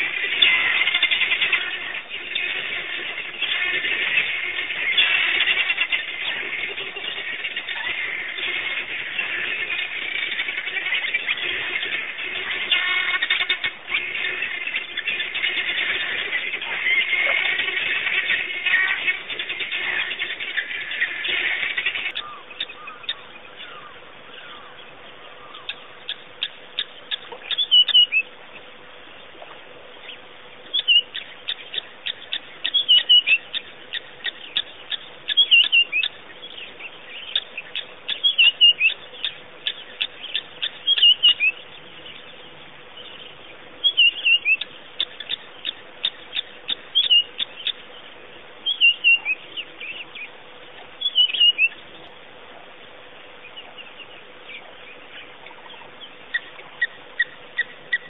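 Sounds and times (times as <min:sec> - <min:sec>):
birds chirping: 0:00.0 - 0:58.0
faint steady hum: 0:00.0 - 0:58.0.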